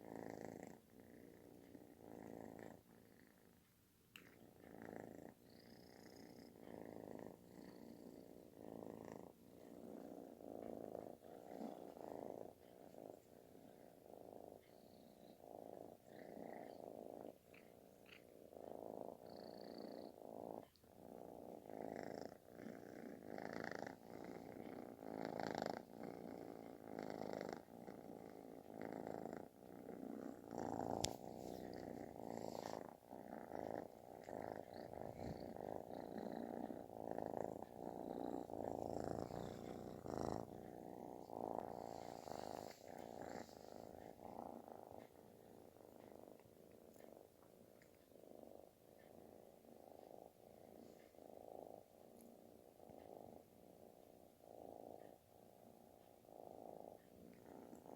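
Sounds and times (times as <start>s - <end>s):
kitten purring: 0.0s - 57.9s.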